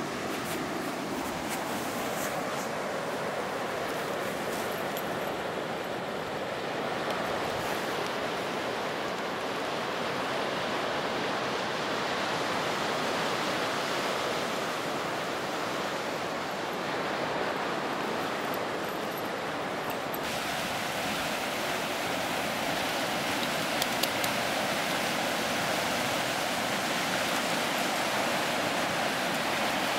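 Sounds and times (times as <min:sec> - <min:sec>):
ocean surf breaking on beach: 0:00.0 - 0:29.9.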